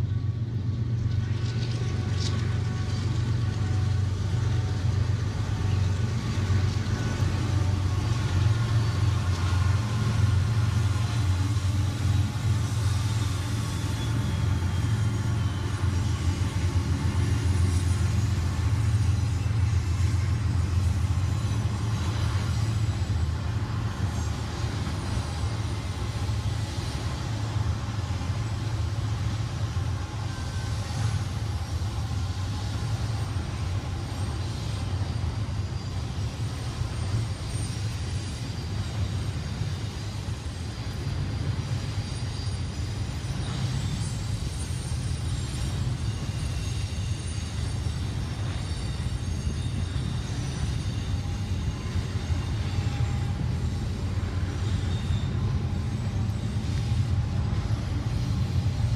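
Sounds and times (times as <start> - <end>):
freight train rumbling past: 0.0 - 58.9.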